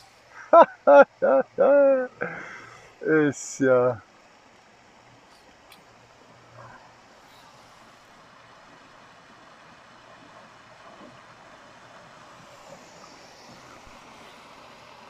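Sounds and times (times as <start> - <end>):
faint motorboat drone: 0.0 - 15.0.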